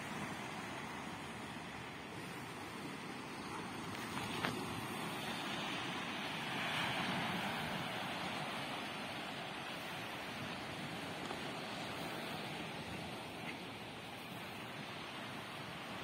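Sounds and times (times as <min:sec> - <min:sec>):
waves on a rocky shore: 0:00.0 - 0:16.0.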